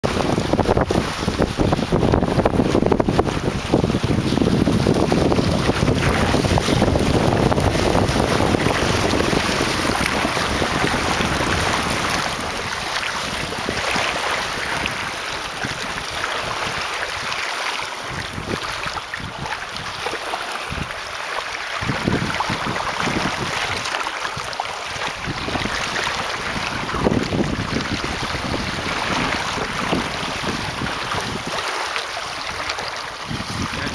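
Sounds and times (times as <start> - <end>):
water rushing and splashing: 0.0 - 33.9
wind buffeting microphone: 0.0 - 33.9.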